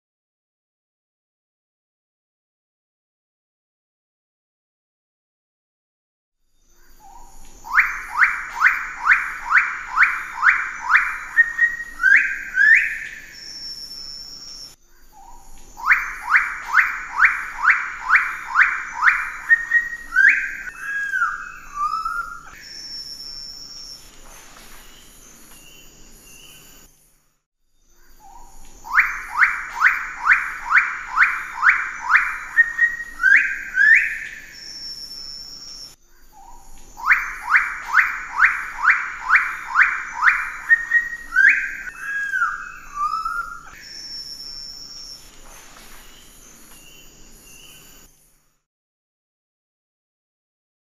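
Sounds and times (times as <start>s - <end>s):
bird singing: 6.5s - 26.9s, 27.8s - 48.4s.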